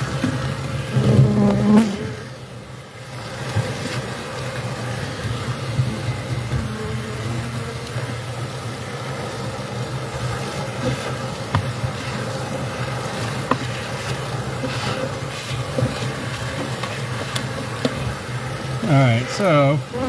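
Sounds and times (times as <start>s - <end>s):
vacuum motor humming: 3.1s - 20.0s.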